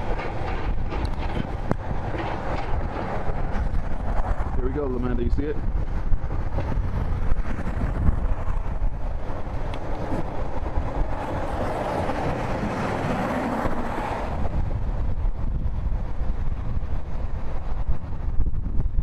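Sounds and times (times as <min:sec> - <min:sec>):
heavy machinery rumbling: 0:00.0 - 0:18.5
rushing noise: 0:00.0 - 0:19.0
wind on microphone: 0:00.0 - 0:19.0.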